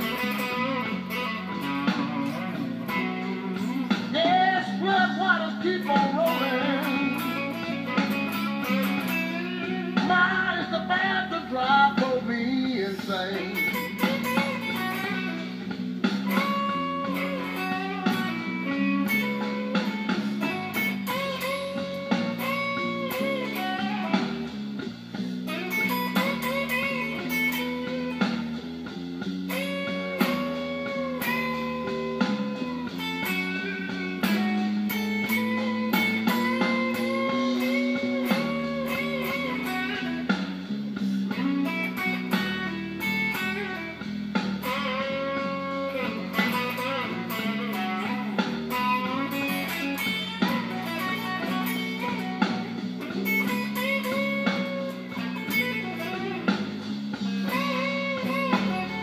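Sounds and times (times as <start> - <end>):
electric blues guitar lead: 0.0 - 59.0
slow blues backing track: 0.0 - 59.0.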